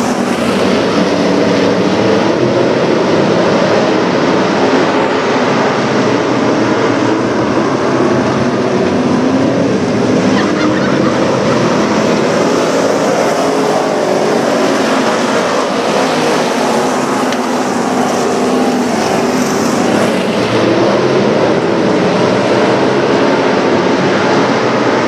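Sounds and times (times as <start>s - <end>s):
many race car engines droning: 0.0s - 25.0s.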